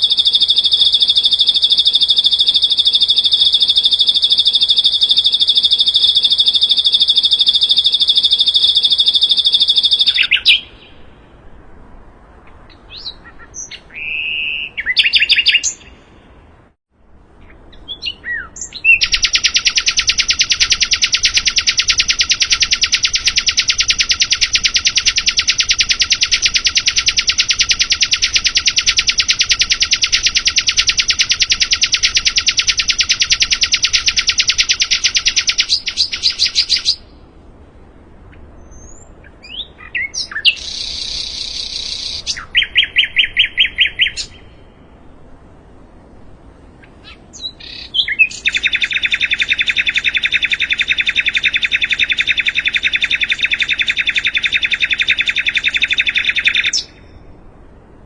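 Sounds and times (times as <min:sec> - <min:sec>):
songbird fast trill: 0:00.0 - 0:11.5, 0:12.4 - 0:16.3, 0:17.4 - 0:37.3, 0:38.3 - 0:45.0, 0:46.8 - 0:57.4
bird chirps and buzzy phrase: 0:00.0 - 0:11.6, 0:12.4 - 0:16.5, 0:17.4 - 0:37.3, 0:38.6 - 0:45.1, 0:46.8 - 0:57.3.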